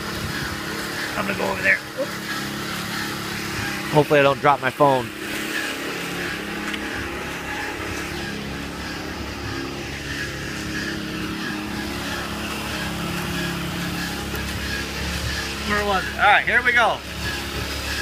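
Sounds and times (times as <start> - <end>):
motor running steadily: 0.0 - 18.0.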